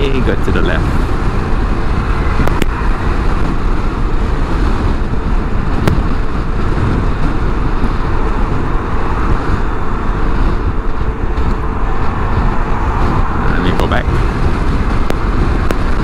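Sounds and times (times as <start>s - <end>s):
tyres on road: 0.0s - 16.0s
wind buffeting microphone: 0.0s - 16.0s.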